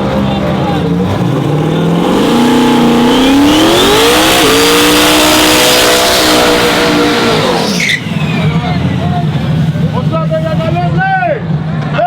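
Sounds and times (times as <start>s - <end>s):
race truck engine at full throttle: 0.0s - 12.0s.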